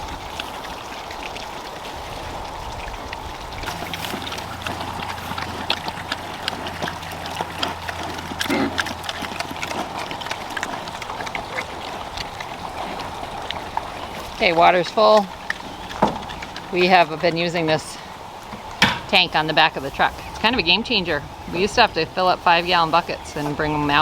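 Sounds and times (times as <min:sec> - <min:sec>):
water running from a hose: 0:00.0 - 0:24.0
low steady hum: 0:03.5 - 0:24.0.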